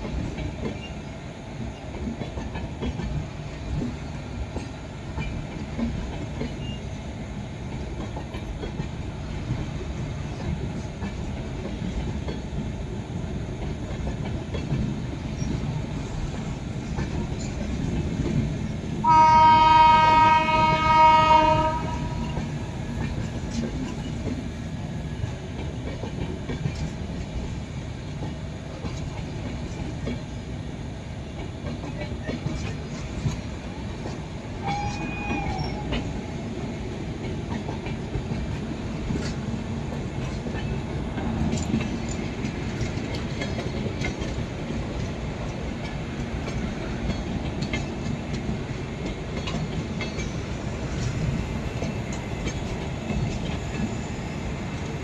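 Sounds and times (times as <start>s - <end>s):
passenger train rumbling past: 0.0s - 55.0s.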